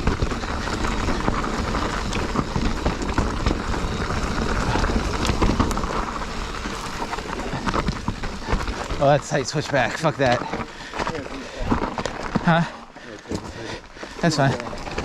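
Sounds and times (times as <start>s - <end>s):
bike rattling over rocks: 0.0s - 15.0s.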